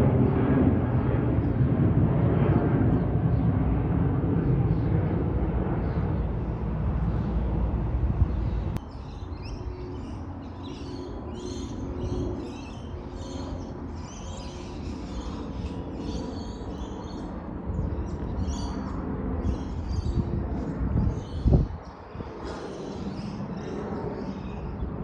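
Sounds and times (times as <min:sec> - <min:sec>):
small birds chirping: 0:04.4 - 0:24.9.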